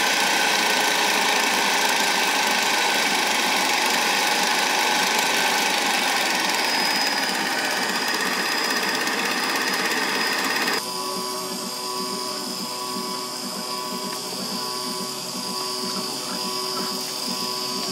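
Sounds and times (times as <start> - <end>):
potter's wheel motor humming: 0.0 - 17.9.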